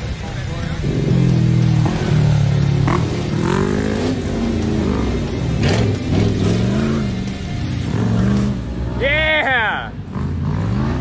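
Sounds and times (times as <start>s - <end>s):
car engine revving hard: 0.7s - 9.0s, 10.0s - 11.0s.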